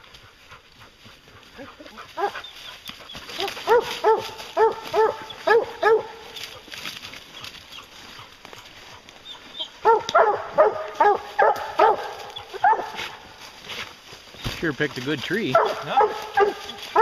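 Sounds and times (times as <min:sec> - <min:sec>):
hounds barking: 0:00.1 - 0:13.9, 0:15.3 - 0:17.0.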